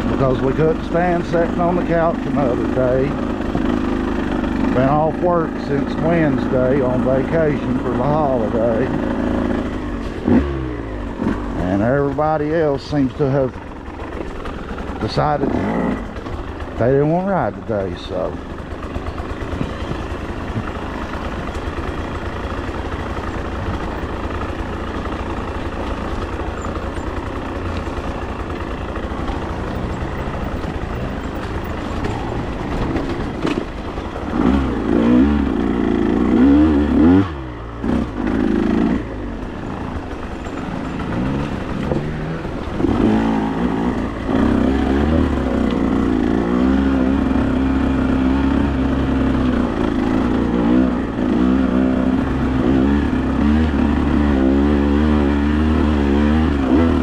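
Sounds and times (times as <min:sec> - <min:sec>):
vehicle engine idling and revving: 0:00.0 - 0:57.0.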